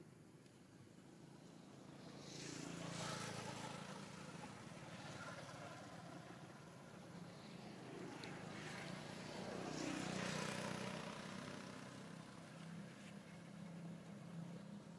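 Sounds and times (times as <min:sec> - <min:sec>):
faint passing vehicle engine: 0:01.2 - 0:14.9.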